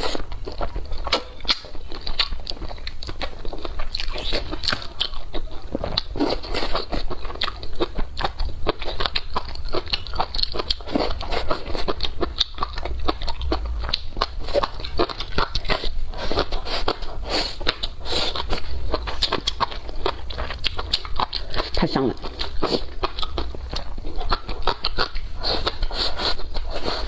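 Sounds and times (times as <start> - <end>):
crunchy food chewing: 0.0 - 27.0.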